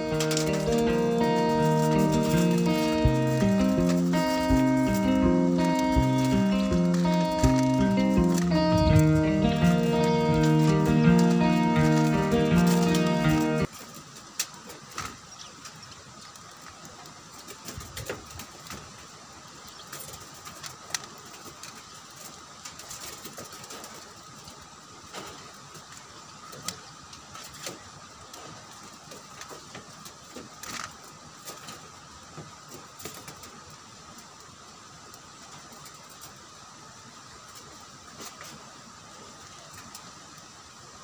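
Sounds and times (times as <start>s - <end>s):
low hiss and hum: 0.0s - 41.0s.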